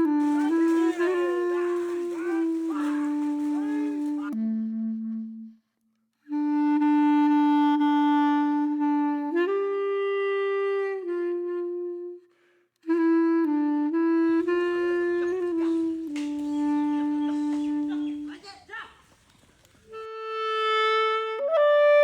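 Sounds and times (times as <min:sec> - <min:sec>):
reed woodwind melody: 0:00.0 - 0:05.5, 0:06.3 - 0:12.3, 0:12.9 - 0:22.0.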